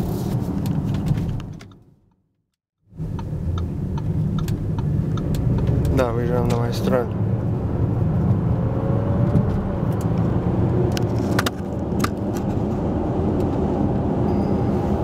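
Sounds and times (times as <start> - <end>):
car cabin drone: 2.9 - 15.0.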